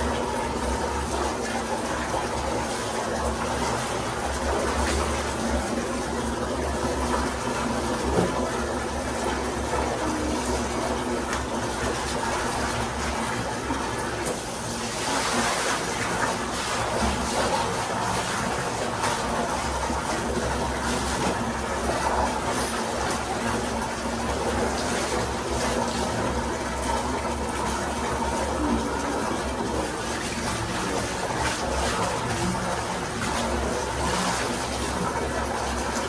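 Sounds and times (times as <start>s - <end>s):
splashing of clothes washing: 0.0s - 36.0s
tap water running into bucket: 0.0s - 36.0s.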